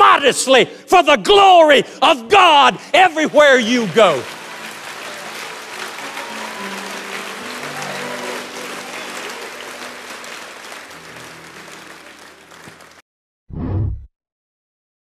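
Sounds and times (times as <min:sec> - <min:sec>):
congregation applauding: 0:01.0 - 0:13.0.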